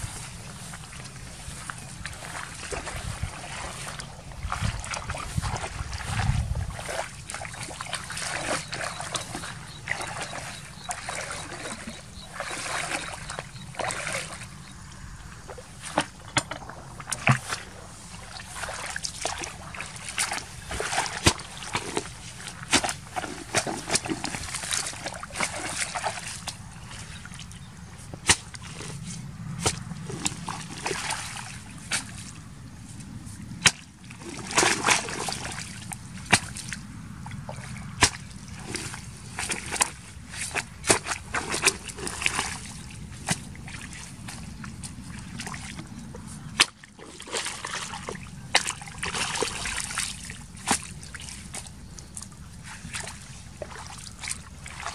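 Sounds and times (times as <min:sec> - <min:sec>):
splashing in muddy water: 0:00.0 - 0:54.9.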